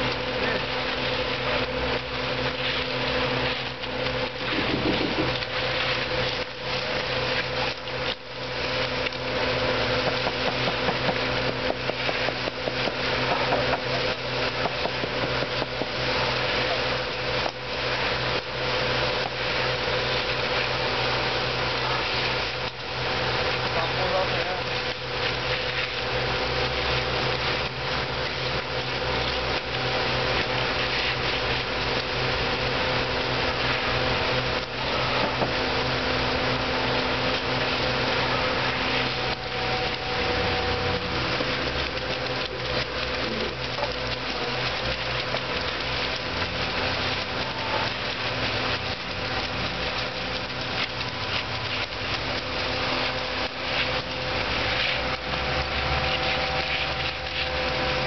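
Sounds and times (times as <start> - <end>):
heavy machinery engine running: 0.0 - 58.0.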